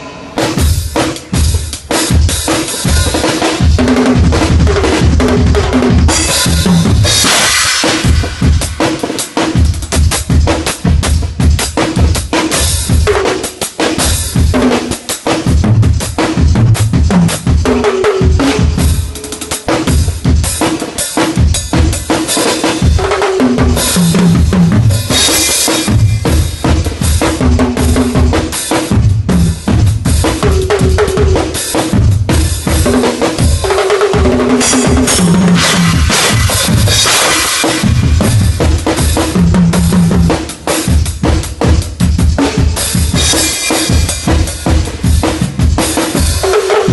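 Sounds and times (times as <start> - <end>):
drum kit groove: 0.0 - 46.9.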